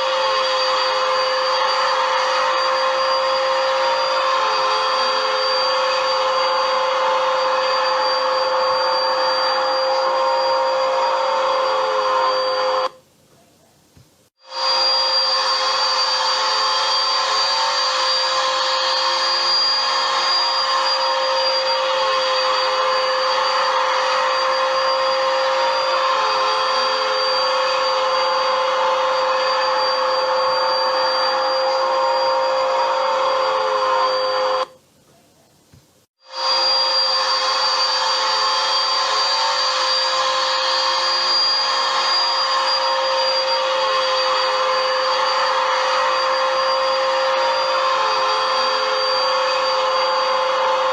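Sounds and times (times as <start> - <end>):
vacuum cleaner motor running: 0.0 - 13.0, 14.4 - 34.8, 36.2 - 50.9.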